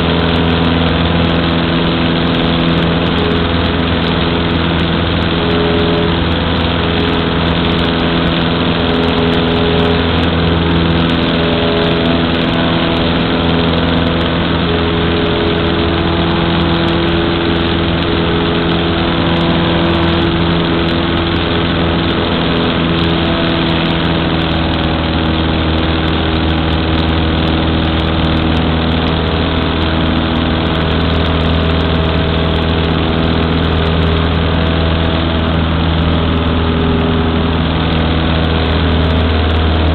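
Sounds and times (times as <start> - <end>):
light aircraft engine droning in cabin: 0.0 - 39.9.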